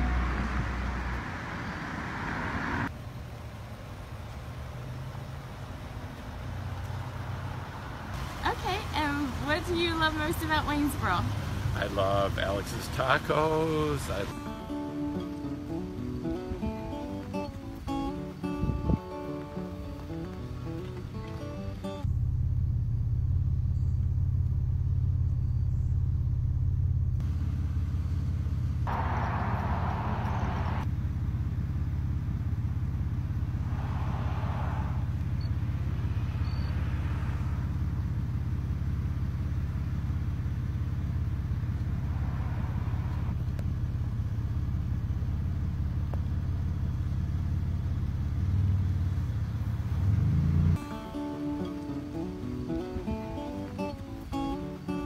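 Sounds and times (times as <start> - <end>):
vehicle rumbling in motion: 0.0 - 55.0.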